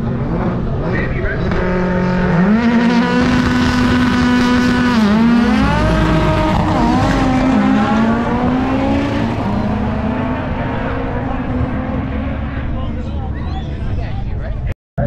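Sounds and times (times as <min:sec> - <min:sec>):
race car engine at high revs: 0:00.0 - 0:13.3.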